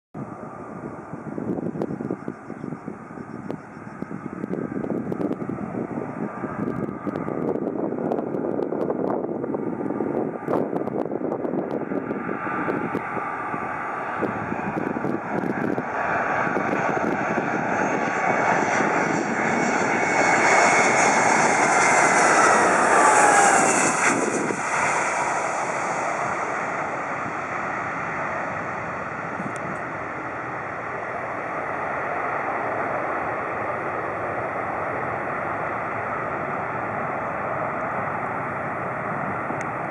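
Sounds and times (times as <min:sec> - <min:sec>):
engine whine falling in pitch: 0:00.2 - 0:39.9
jet engine noise: 0:00.2 - 0:39.9.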